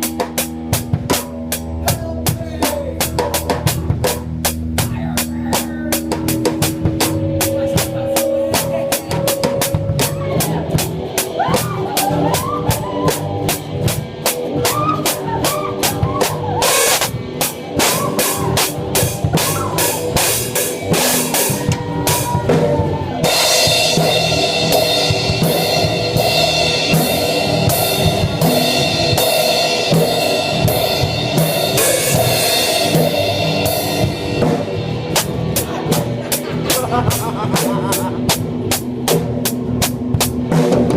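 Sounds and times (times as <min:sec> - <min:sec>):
drum kit played loud: 0:00.0 - 0:40.9
sustained guitar and bass notes: 0:00.0 - 0:40.9.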